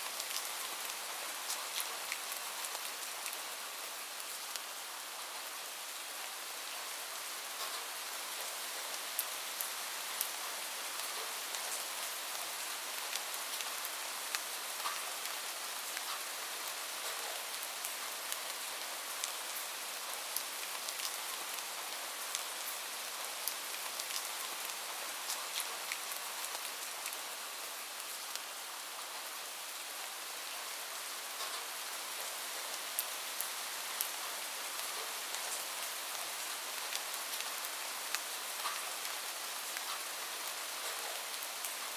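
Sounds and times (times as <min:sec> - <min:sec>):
light rain hiss: 0:00.0 - 0:41.9
raindrops ticking on a surface: 0:00.0 - 0:41.9.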